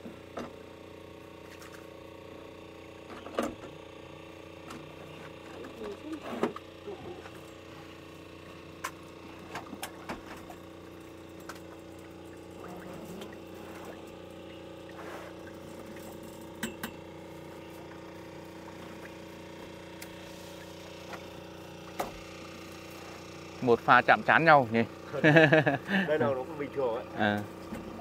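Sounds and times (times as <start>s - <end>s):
small boat engine humming: 0.0s - 28.0s.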